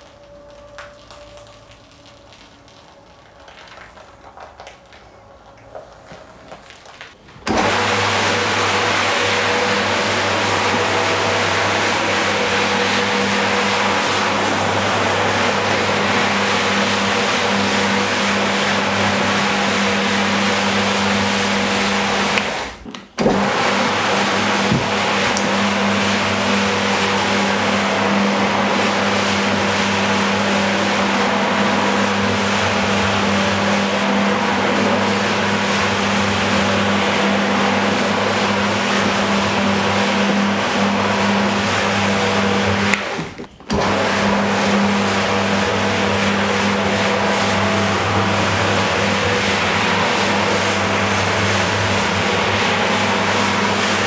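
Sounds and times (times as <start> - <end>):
floor scrubber motor humming: 7.3 - 54.0.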